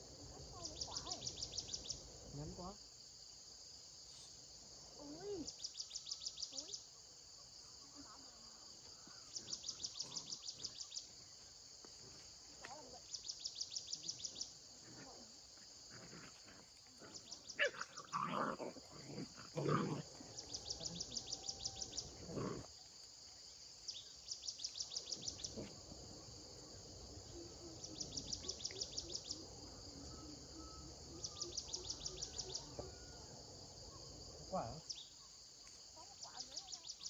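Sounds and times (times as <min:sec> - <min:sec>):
insect chirping: 0:00.0 - 0:37.0.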